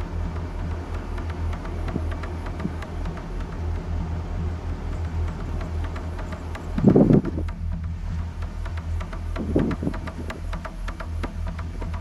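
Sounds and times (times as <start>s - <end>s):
car driving rumble: 0.0s - 12.0s
light clicks and rattles: 0.1s - 12.0s.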